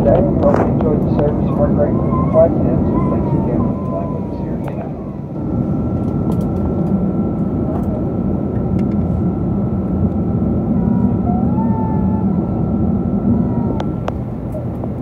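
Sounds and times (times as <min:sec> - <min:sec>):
airliner cabin roar: 0:00.0 - 0:15.0
thin steady whine: 0:00.0 - 0:15.0.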